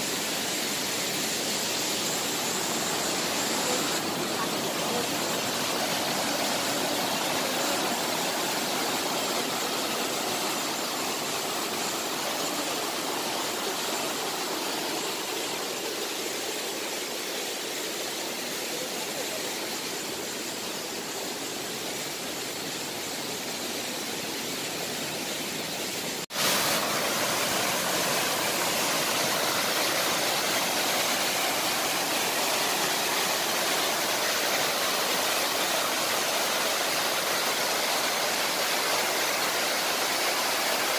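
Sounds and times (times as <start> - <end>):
waterfall rushing over rocks: 0.0 - 40.9.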